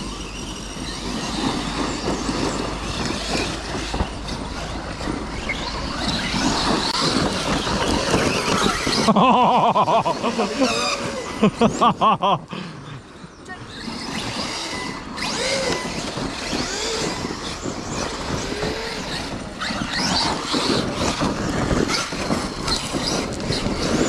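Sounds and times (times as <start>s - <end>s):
radio-controlled car motors whining: 0.0s - 12.1s, 12.9s - 24.0s
continuous rough noise: 0.0s - 24.0s.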